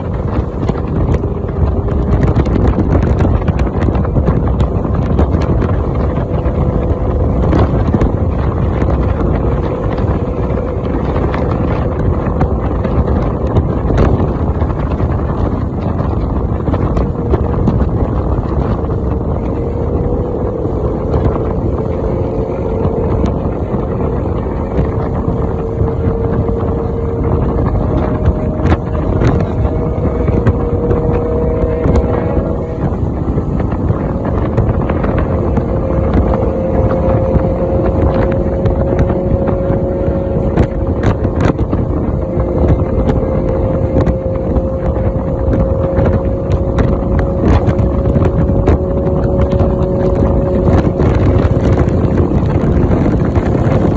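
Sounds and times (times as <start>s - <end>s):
motorcycle engine cruising: 0.0s - 53.9s
wind buffeting microphone: 0.0s - 53.9s.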